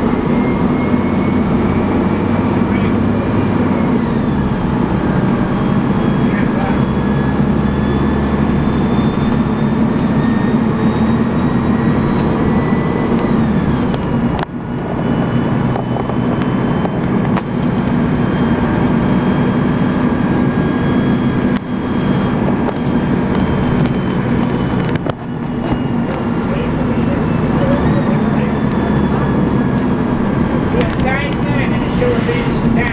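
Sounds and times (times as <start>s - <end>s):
bus diesel engine running: 0.0s - 32.9s
high gearbox whine: 0.0s - 32.9s.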